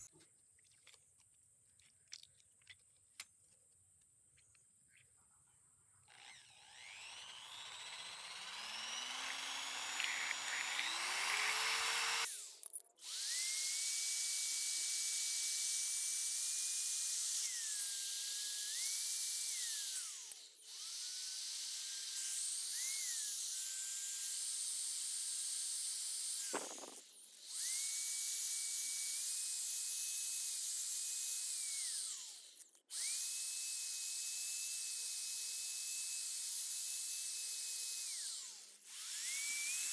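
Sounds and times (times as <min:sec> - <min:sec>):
drill motor whine: 0:06.1 - 0:39.9.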